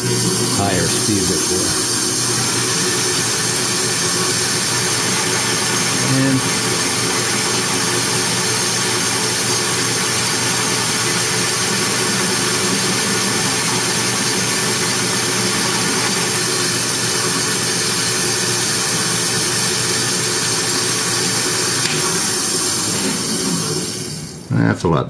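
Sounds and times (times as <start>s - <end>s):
lathe running: 0.0s - 24.5s.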